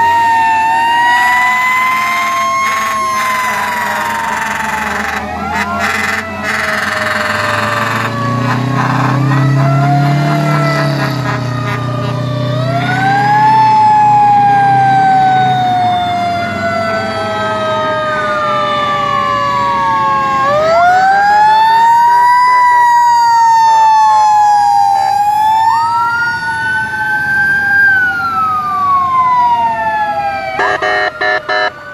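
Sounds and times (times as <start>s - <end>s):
heavy truck engine rumbling: 0.0s - 22.2s, 24.0s - 31.9s
wailing sirens: 0.0s - 31.9s.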